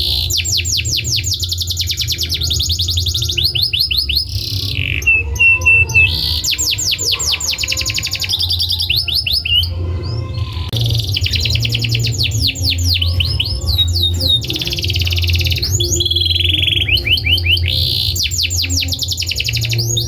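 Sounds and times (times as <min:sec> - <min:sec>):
canary singing trills: 0:00.0 - 0:20.0
steady low hum: 0:00.0 - 0:20.0.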